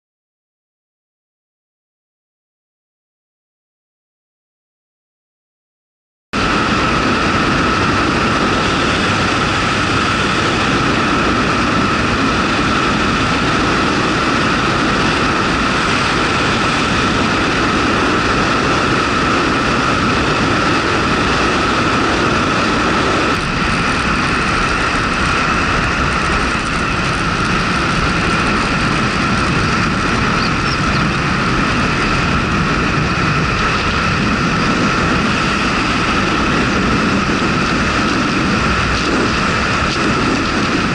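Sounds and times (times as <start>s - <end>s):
motorcycle engine running: 6.4s - 40.9s
road noise: 6.4s - 40.9s.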